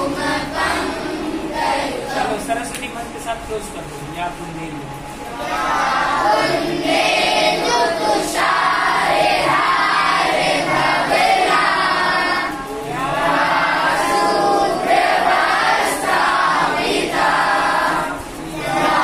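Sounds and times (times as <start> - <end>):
children singing in unison: 0.0 - 2.5, 5.3 - 19.0.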